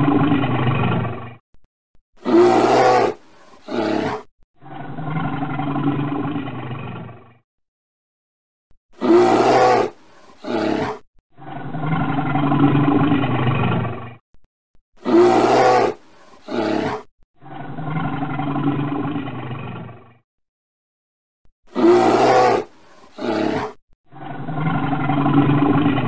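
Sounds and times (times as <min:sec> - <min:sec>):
animal roar: 0:00.0 - 0:01.4, 0:02.2 - 0:07.4, 0:09.0 - 0:14.2, 0:15.0 - 0:20.2, 0:21.7 - 0:26.0.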